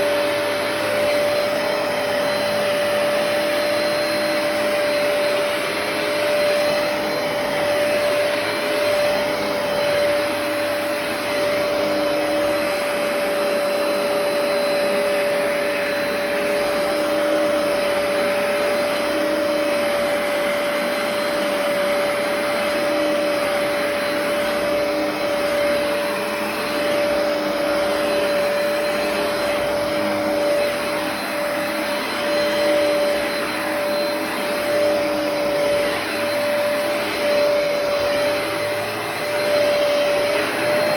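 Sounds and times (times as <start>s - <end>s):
carpet cleaner motor hum: 0.0s - 40.9s.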